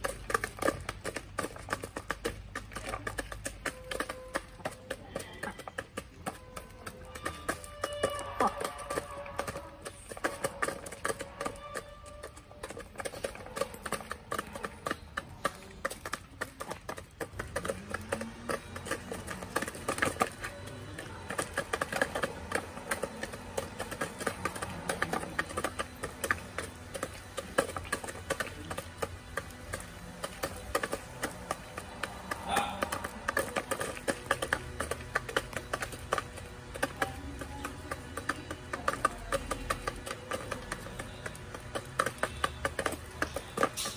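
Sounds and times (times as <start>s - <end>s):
beaks tapping on plastic feeder: 0.0s - 43.9s
chickens clucking: 0.0s - 43.9s
chickens pecking at feed: 0.0s - 43.9s.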